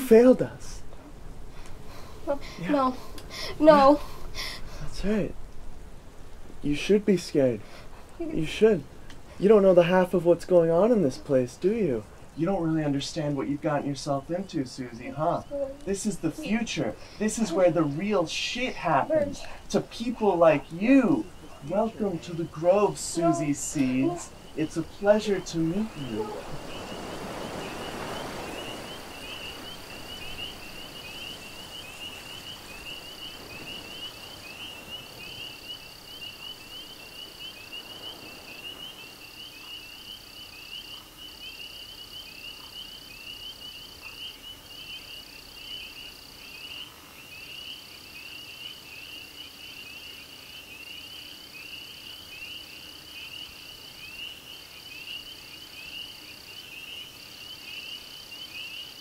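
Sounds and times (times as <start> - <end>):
frogs chirping: 0.0 - 59.0.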